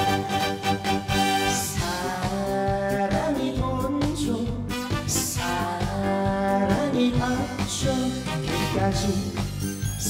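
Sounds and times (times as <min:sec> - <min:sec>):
trot backing music with steady beat: 0:00.0 - 0:10.0.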